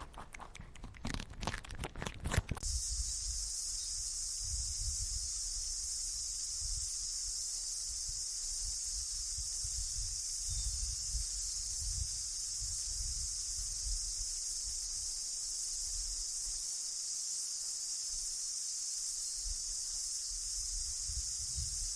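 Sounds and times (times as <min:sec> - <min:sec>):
high-pitched insect drone: 0:02.6 - 0:21.9.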